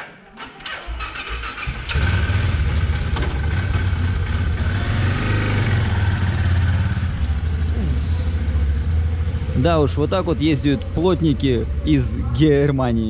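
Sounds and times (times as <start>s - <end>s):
motorcycle engine idling: 0.9s - 13.0s.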